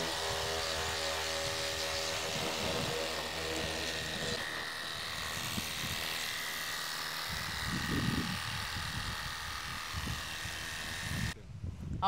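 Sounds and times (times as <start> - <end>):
electric motor whining: 0.0 - 11.4.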